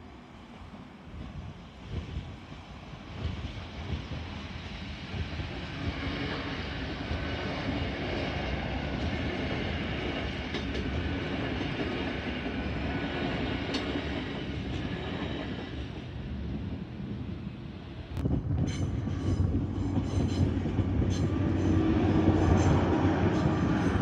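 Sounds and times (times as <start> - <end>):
train wheels rumbling on rails: 0.1 - 24.0.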